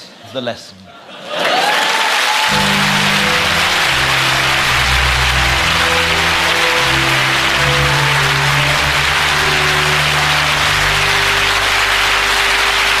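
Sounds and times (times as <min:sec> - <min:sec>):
audience applauding: 0:01.4 - 0:13.0
play-off music: 0:02.5 - 0:13.0.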